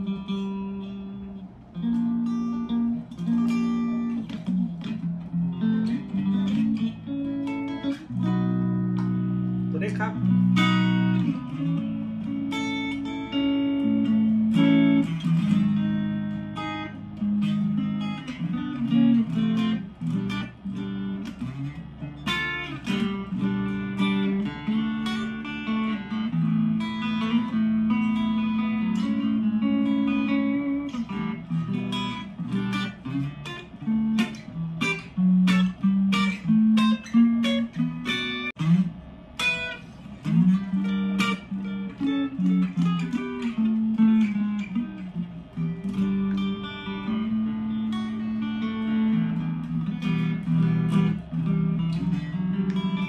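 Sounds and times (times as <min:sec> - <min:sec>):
clean electric guitar playing: 0:00.0 - 0:53.0.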